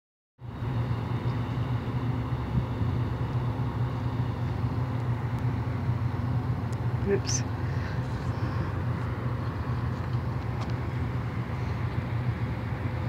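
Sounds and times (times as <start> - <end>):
ship diesel engine drone: 0.4 - 13.0.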